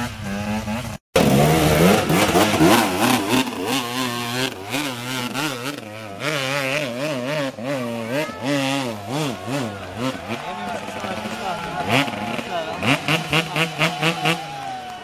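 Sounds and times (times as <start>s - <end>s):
motorcycle engine revving hard: 0.0s - 15.0s.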